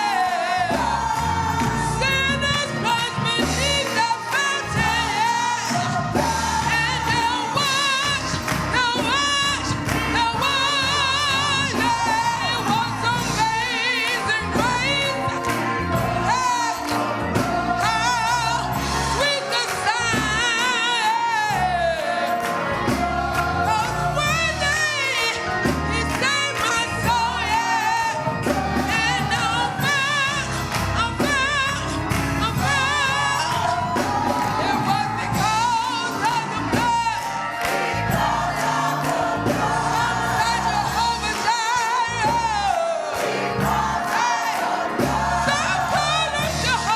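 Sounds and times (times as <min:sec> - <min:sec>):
gospel singing with vibrato: 0:00.0 - 0:46.9
instrumental accompaniment: 0:00.0 - 0:46.9.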